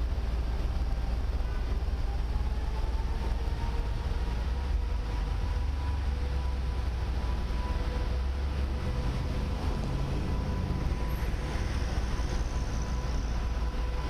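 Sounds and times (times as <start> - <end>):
wind and road noise rumble: 0.0 - 14.0.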